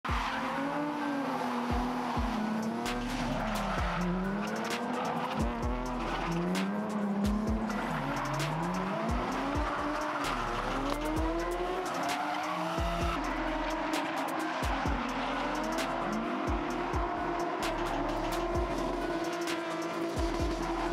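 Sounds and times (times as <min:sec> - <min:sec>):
car engines revving: 0:00.0 - 0:20.9.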